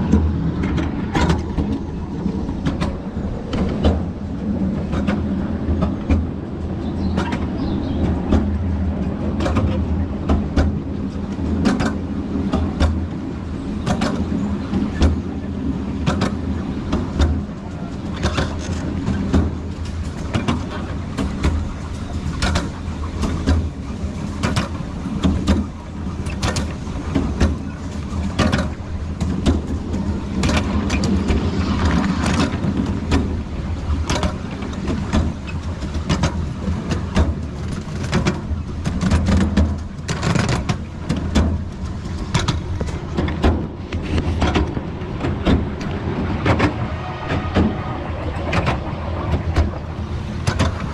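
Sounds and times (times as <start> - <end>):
train rumbling: 0.0 - 50.9
wheels clattering on rails: 0.0 - 50.9.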